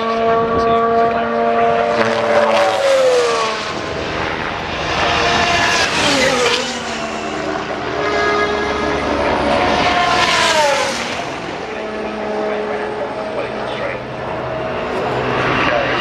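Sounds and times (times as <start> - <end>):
distant race car engines: 0.0 - 16.0
race cars passing at speed: 0.0 - 16.0.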